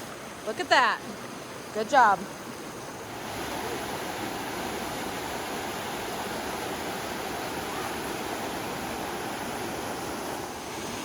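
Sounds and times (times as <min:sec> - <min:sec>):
brook water rushing: 0:00.0 - 0:11.0.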